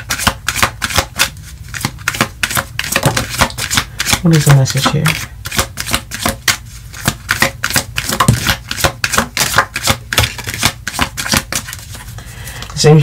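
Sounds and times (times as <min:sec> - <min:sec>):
cards being shuffled: 0:00.0 - 0:12.8.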